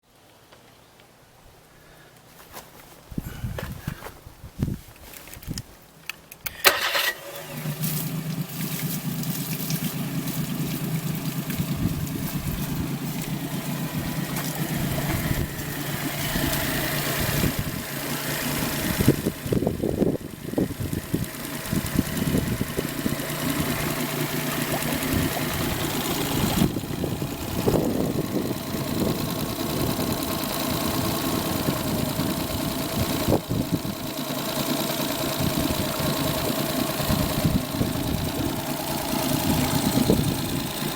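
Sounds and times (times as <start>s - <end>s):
outboard motor starter turning: 6.3s - 40.9s
outboard motor running: 6.7s - 40.9s.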